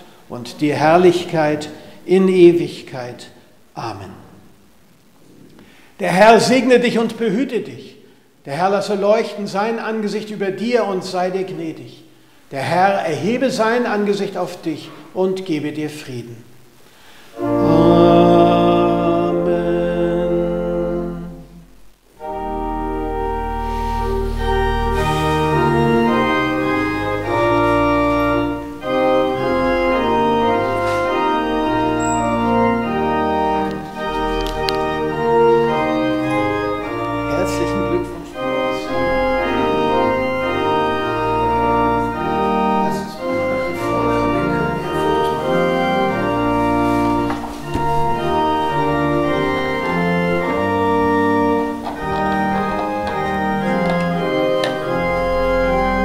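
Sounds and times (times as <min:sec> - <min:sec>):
church organ playing: 0:00.0 - 0:04.1, 0:06.0 - 0:07.8, 0:08.4 - 0:11.8, 0:12.5 - 0:16.1, 0:17.2 - 0:56.0.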